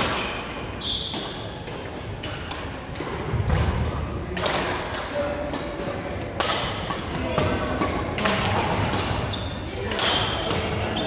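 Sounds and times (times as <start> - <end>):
racket hitting shuttlecock: 0.0 - 10.8.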